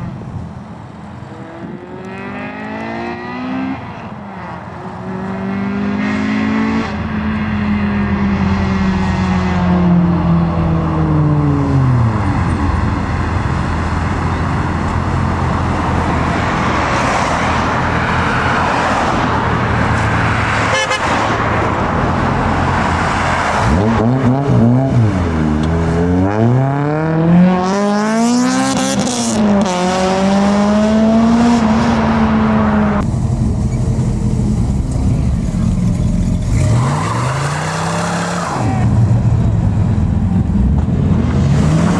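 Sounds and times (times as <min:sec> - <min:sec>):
exhaust and road noise: 0:00.0 - 0:41.9
car engine revving: 0:05.1 - 0:41.9.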